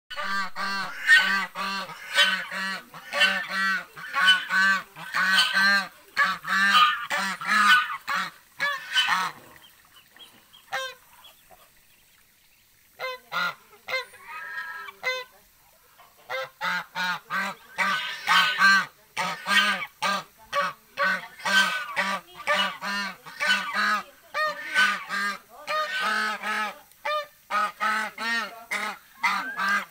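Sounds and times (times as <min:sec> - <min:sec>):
geese honking: 0:00.1 - 0:11.8, 0:12.9 - 0:29.9.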